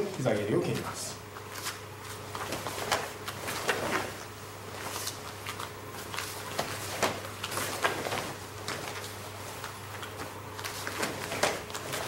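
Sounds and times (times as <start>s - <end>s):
steady low hum: 0.0s - 12.0s
fabric rustling: 1.4s - 12.0s.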